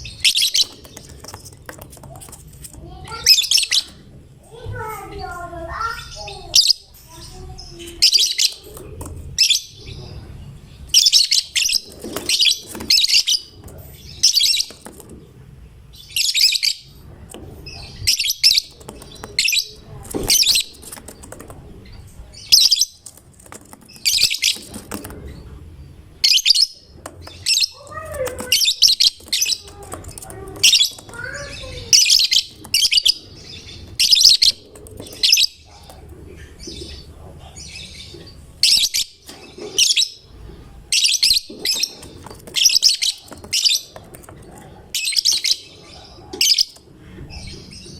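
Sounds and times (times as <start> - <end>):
lovebird chirping: 0.0 - 1.3, 5.1 - 8.8, 10.7 - 14.9, 15.9 - 17.0, 17.6 - 23.2, 23.8 - 47.9.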